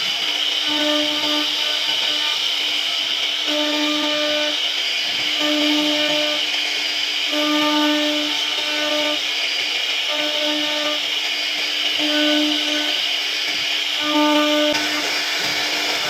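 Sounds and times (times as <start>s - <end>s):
router spindle whine: 0.0s - 16.0s.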